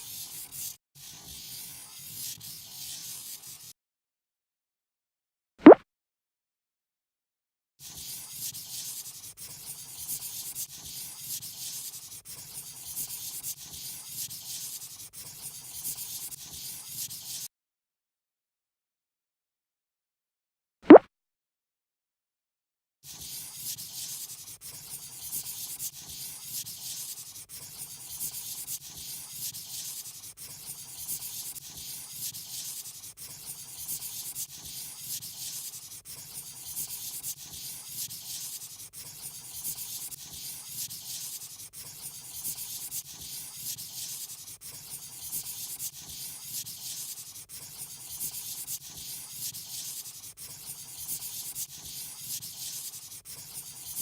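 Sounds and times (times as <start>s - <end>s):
pen scratching on paper: 0.0s - 3.7s, 7.8s - 17.5s, 23.1s - 54.0s.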